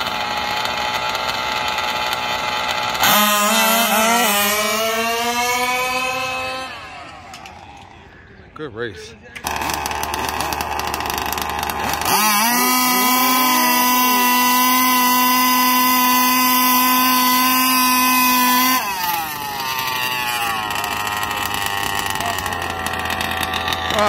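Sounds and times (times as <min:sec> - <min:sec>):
small two-stroke engine revving: 0:00.0 - 0:08.0, 0:09.4 - 0:24.0.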